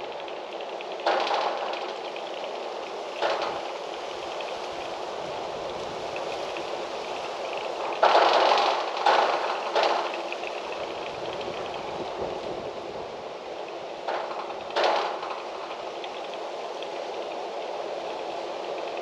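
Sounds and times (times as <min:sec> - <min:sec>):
wind blowing with rustling hiss: 0:00.0 - 0:19.0
wind gusts: 0:00.0 - 0:19.0.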